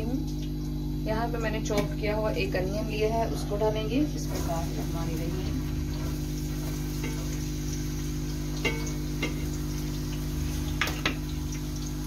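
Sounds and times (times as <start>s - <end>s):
chicken sizzling in a wok: 0.0s - 12.0s
steady low hum: 0.0s - 12.0s.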